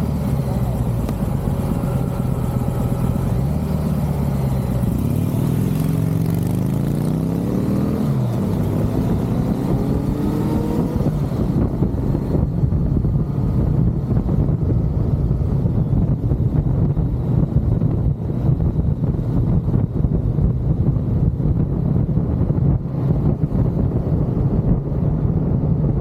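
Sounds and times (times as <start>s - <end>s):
motorcycle engine accelerating: 0.0s - 26.0s
wind on microphone: 4.2s - 26.0s.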